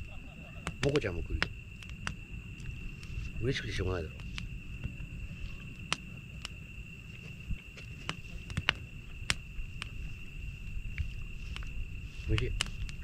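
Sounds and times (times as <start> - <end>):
campfire wood crackling: 0.0 - 13.0
insects trilling: 0.0 - 13.0
sharp fire pops: 0.0 - 13.0.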